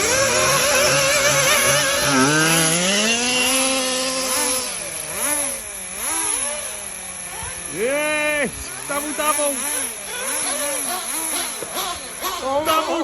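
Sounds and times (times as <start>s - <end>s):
model car engine revving: 0.0s - 13.0s.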